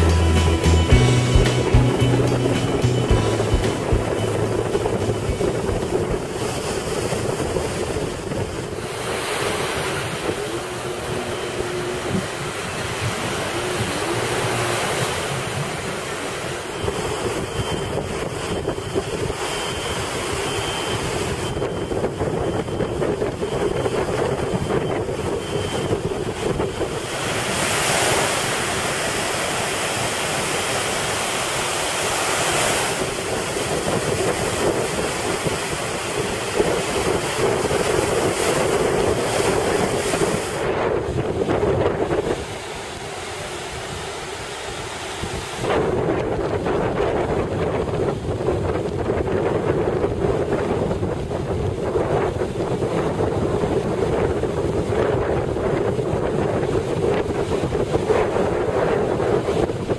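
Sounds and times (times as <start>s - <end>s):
surf breaking on shore: 0.0s - 59.9s
wind on microphone: 0.0s - 59.9s.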